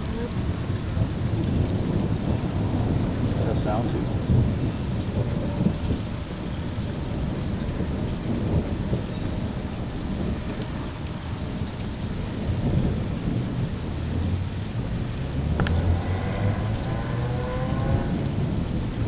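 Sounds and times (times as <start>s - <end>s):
low thunder rumble: 0.0s - 19.0s
rain: 0.0s - 19.0s
wind gusting on microphone: 0.0s - 19.0s.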